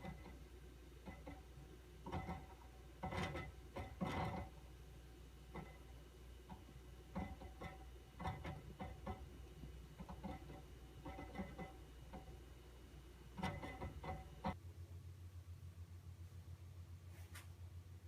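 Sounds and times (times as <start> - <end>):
hard drive heads clicking: 0.0 - 14.6.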